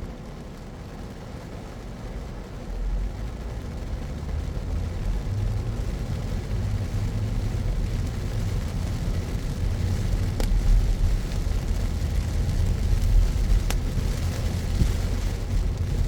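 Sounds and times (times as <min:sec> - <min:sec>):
car engine and road rumble: 0:00.0 - 0:16.0
tyres hissing on wet pavement: 0:00.1 - 0:16.0.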